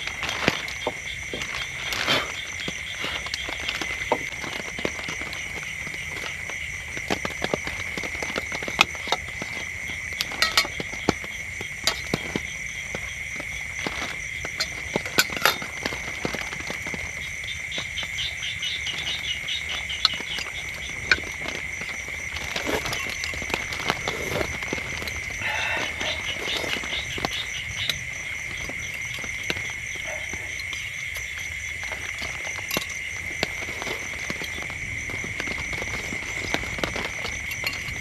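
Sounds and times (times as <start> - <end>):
chorus of frogs and insects: 0.0 - 38.0
raindrops tapping: 0.0 - 38.0.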